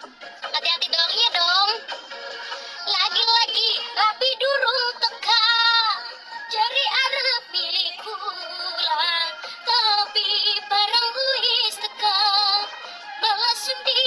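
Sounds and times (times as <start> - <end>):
woman singing with vibrato: 0.4 - 1.9, 2.8 - 14.0.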